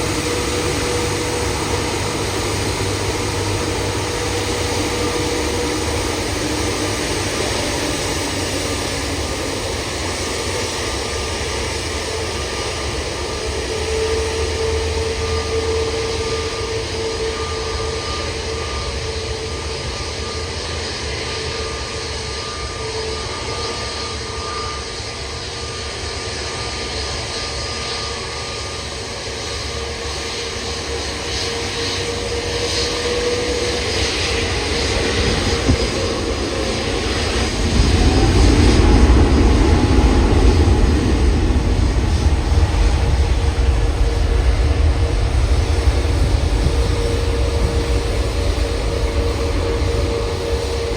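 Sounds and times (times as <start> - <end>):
jet engines whining and rumbling: 0.0 - 50.9.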